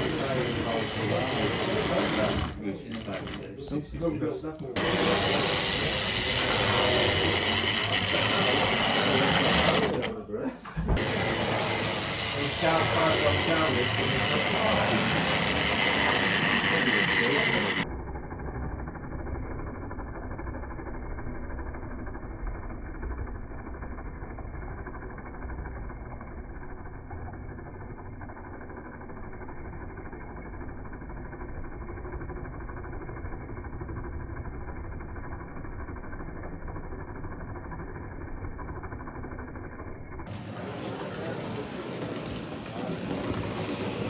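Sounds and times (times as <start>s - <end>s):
model train motor hum: 0.0s - 44.0s.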